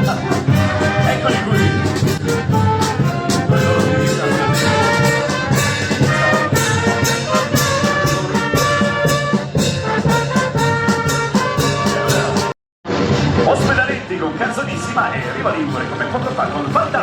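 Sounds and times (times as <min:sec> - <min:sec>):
brass fanfare: 0:00.0 - 0:13.9
rapid drumming: 0:00.0 - 0:17.0.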